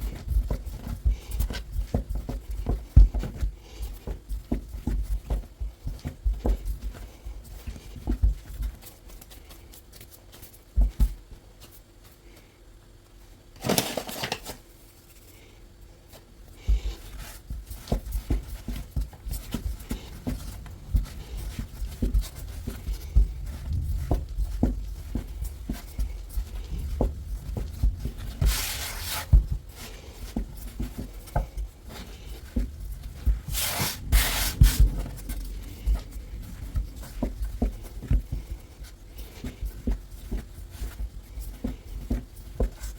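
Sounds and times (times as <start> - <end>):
hands kneading dough: 0.0 - 42.9.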